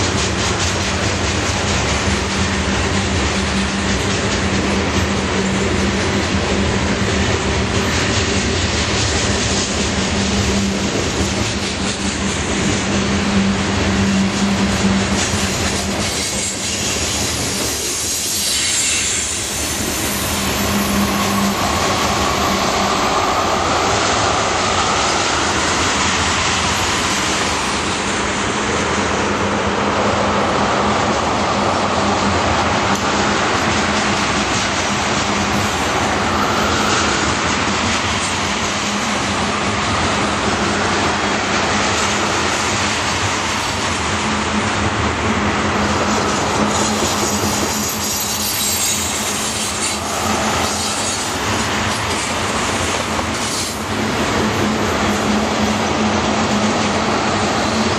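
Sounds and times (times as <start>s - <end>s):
freight train wheels on rails: 0.0s - 57.9s.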